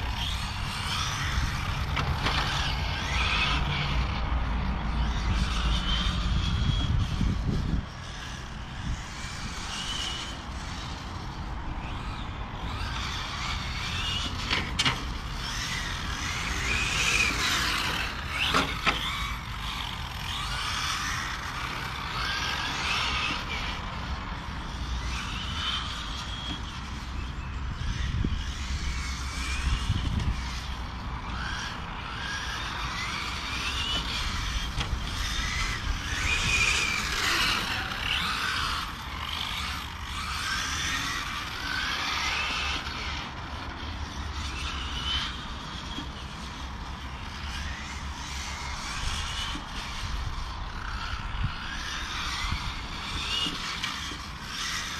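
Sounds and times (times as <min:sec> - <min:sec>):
rc car motors whining: 0:00.0 - 0:54.9.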